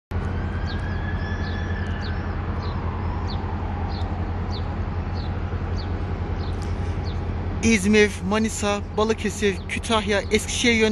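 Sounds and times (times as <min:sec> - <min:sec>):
steady low hum: 0:00.1 - 0:10.9
bird chirping: 0:00.4 - 0:10.9.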